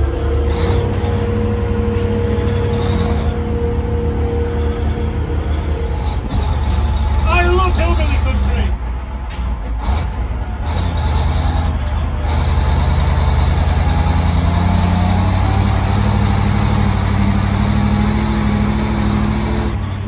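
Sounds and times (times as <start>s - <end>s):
lorry engine running: 0.0s - 20.0s.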